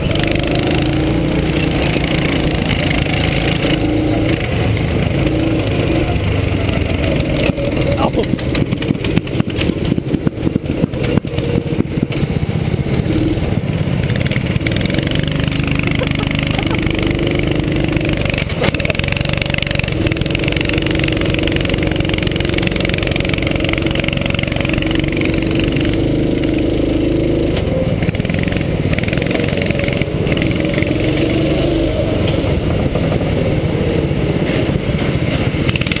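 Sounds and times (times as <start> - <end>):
go-kart engine running: 0.0 - 36.0.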